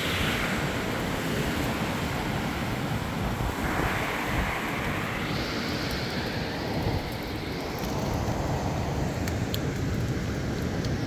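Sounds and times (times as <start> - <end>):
wind buffeting microphone: 0.0 - 11.0
wind rushing through pine trees: 0.0 - 11.0.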